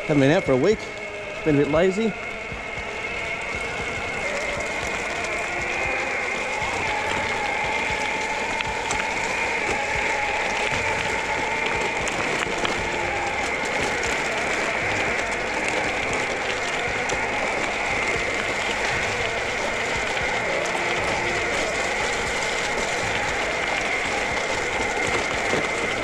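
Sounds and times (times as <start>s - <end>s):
electric motor whine: 0.0s - 26.0s
wheels crackling over gravel: 0.0s - 26.0s.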